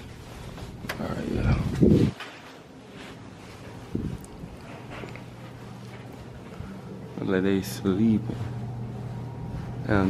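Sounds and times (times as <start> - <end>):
faint rustling: 0.0 - 10.0
steady low hum: 0.0 - 10.0.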